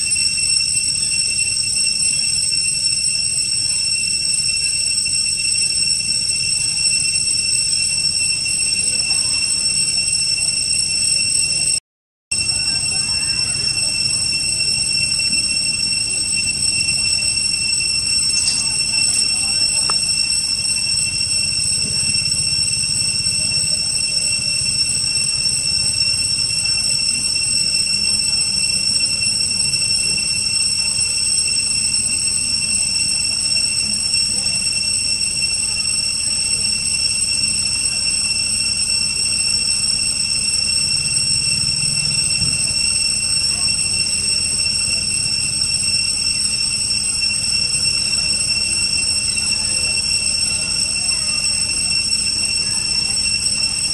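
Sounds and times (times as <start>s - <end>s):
insect chorus whining: 0.0s - 53.9s.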